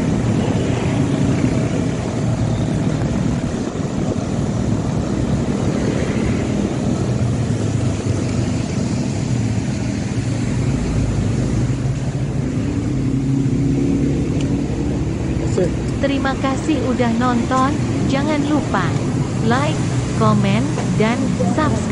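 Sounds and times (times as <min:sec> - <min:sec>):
motorcycle engine running: 0:00.0 - 0:21.9
road and wind noise: 0:00.0 - 0:21.9.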